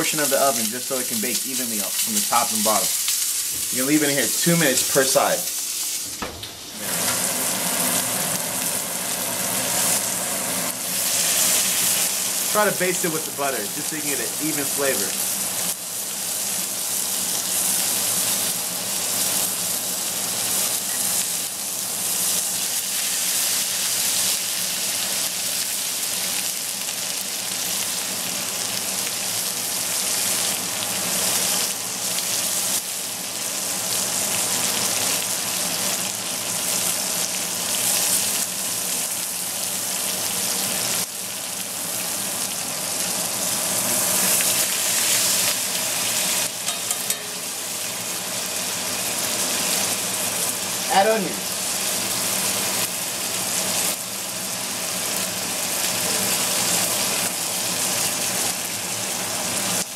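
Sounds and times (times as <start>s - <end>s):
steak sizzling in a skillet: 0.0s - 59.9s.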